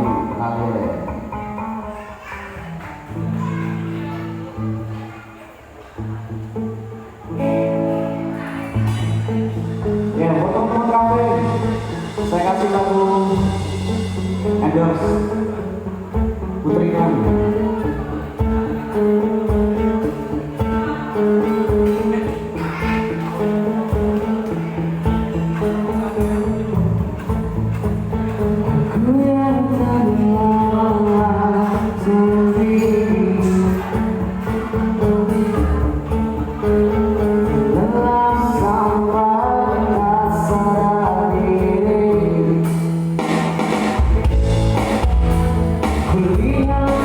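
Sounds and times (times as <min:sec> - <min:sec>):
bass guitar: 0:00.0 - 0:05.1, 0:06.0 - 0:47.0
strummed acoustic guitar: 0:00.0 - 0:47.0
live band music: 0:07.4 - 0:47.0.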